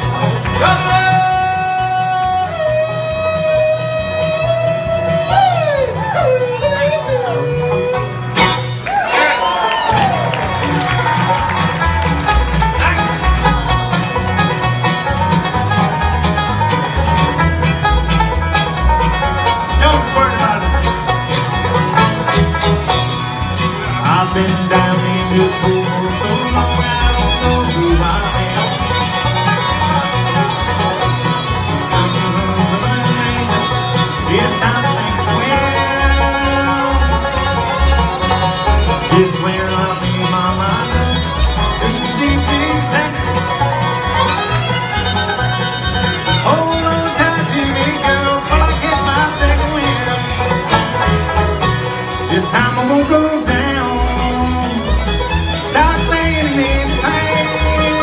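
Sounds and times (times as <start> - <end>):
bluegrass band playing: 0.0 - 58.0
upright bass pulsing: 0.0 - 58.0.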